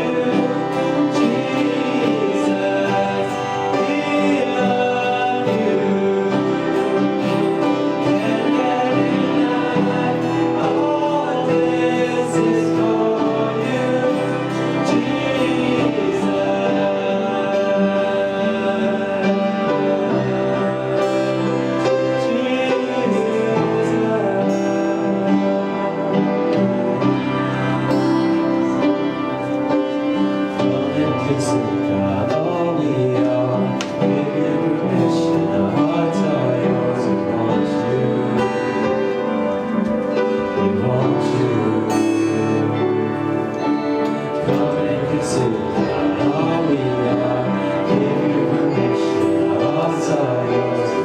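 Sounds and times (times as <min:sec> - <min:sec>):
live worship music: 0:00.0 - 0:51.0.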